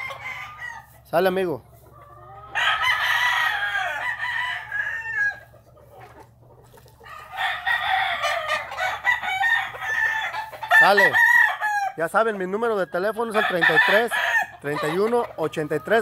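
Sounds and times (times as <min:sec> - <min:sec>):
roosters crowing: 0:00.0 - 0:01.4, 0:02.0 - 0:06.0, 0:06.9 - 0:16.0.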